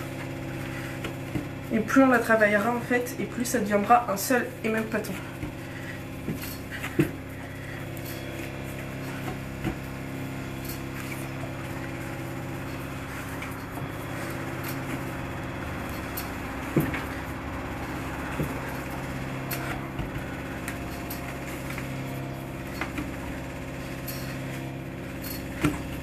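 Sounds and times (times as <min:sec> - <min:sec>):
dough kneaded by hand on worktop: 0:00.0 - 0:26.0
low machine hum: 0:00.0 - 0:26.0.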